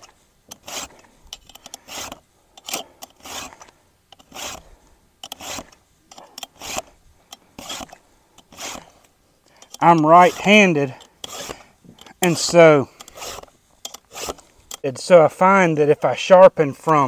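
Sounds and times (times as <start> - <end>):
file rasping on chainsaw chain: 0.0 - 9.0, 9.6 - 14.8.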